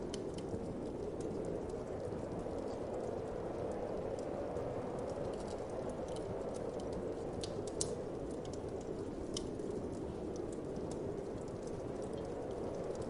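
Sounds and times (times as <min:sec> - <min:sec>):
low rush of wind: 0:00.0 - 0:13.0
wood fire crackling: 0:00.0 - 0:13.0.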